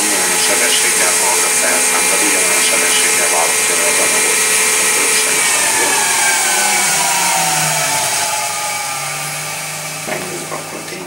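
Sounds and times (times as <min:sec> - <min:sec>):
lathe spindle hiss and whine: 0:00.0 - 0:11.0.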